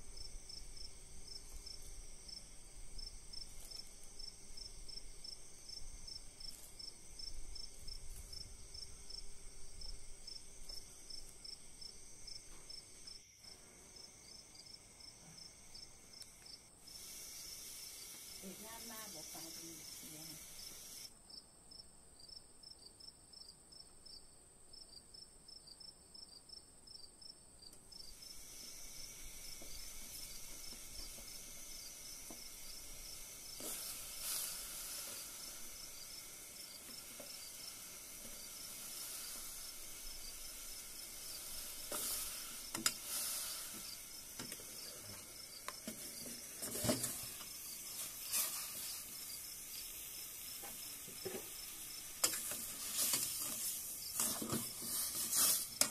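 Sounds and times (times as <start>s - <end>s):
water hissing in pot: 0.0s - 21.1s, 28.0s - 55.9s.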